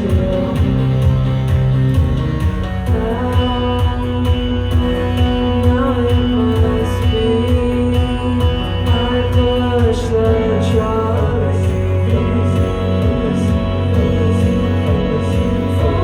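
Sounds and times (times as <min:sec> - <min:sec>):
person singing: 0:00.0 - 0:01.7, 0:02.6 - 0:16.0
live band playing: 0:00.0 - 0:16.0.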